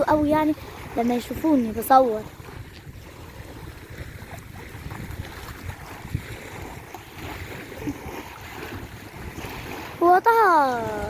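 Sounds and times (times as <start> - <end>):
surf washing on shore: 0.0 - 11.0
wind rumbling on microphone: 0.0 - 11.0.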